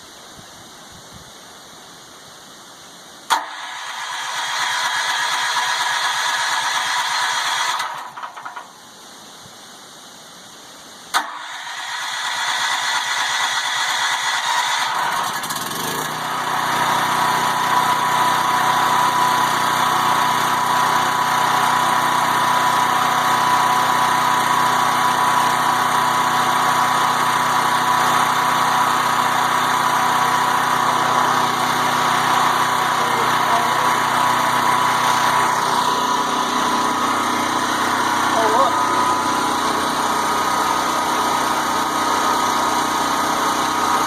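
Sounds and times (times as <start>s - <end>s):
generator engine running: 3.3s - 8.8s, 11.2s - 44.0s.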